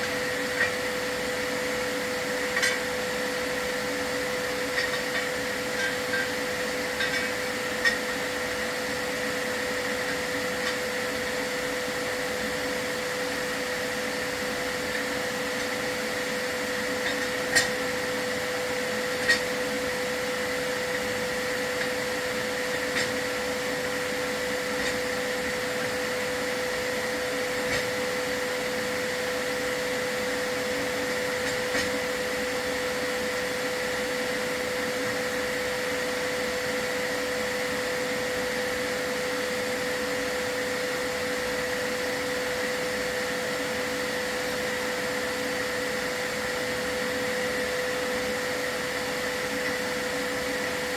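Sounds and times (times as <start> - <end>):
vacuum cleaner humming: 0.0 - 50.9.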